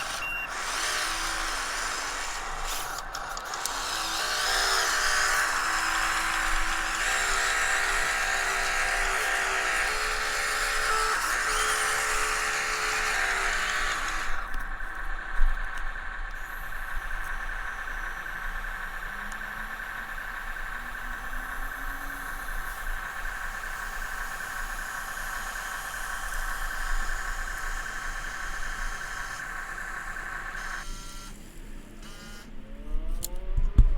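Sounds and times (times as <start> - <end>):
small electric motor whining: 0.0 - 33.9.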